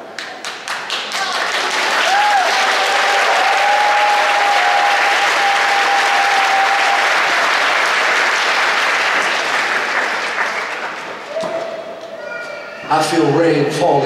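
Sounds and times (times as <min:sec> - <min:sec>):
congregation applauding: 0:00.1 - 0:11.4.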